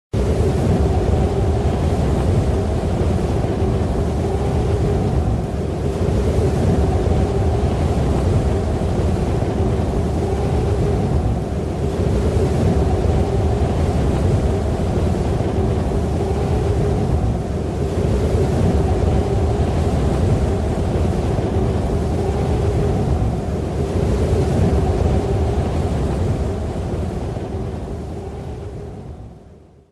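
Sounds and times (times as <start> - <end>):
blizzard wind howling: 0.1 - 29.9.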